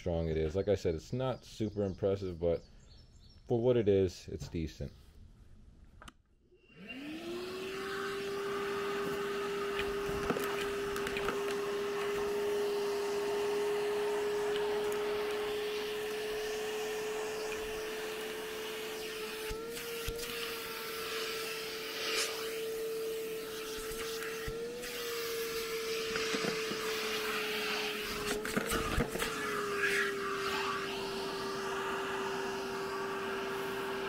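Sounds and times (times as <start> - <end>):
wet dry vacuum motor whining: 6.6 - 34.0.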